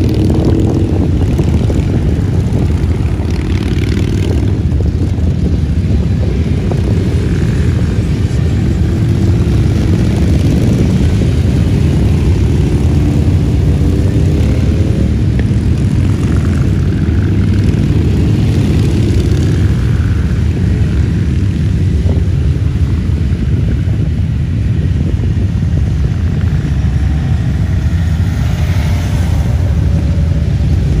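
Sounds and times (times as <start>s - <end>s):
motorcycle engines rumbling: 0.0s - 31.0s.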